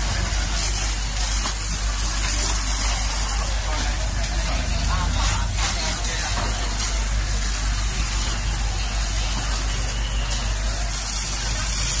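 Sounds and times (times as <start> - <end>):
hose jet spraying water: 0.0 - 12.0
low engine rumble: 0.0 - 12.0.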